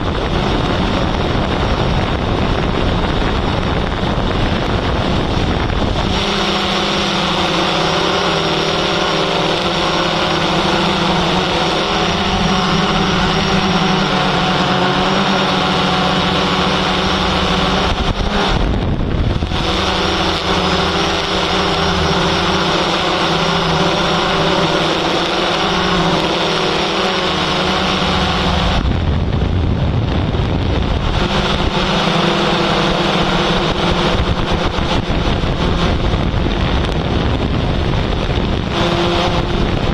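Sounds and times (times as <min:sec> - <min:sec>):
drone propellers whirring: 0:00.0 - 0:39.9
wind noise on microphone: 0:00.0 - 0:39.9.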